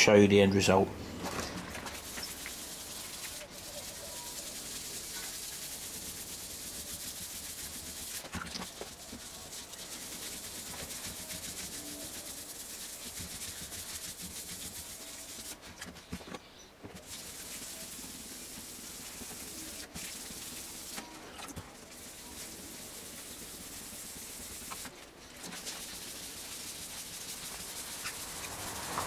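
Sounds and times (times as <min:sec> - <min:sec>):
sandpaper scrubbing a car panel: 0:01.8 - 0:16.2, 0:17.0 - 0:21.0, 0:21.8 - 0:29.0.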